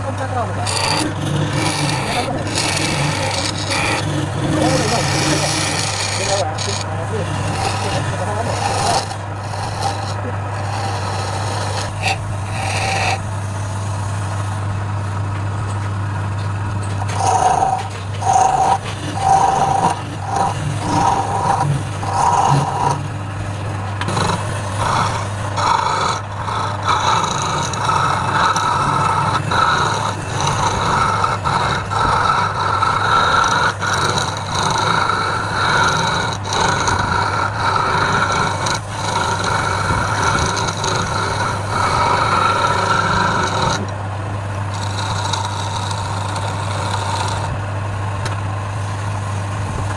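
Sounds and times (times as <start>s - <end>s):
turning tool scraping wood: 0.0s - 44.0s, 44.6s - 47.5s
wood lathe humming: 0.0s - 49.9s.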